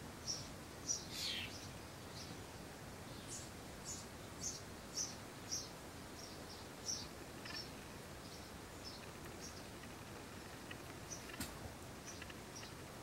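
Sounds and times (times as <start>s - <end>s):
steady background hiss: 0.0s - 13.0s
small bird chirping: 0.2s - 2.4s, 3.1s - 13.0s.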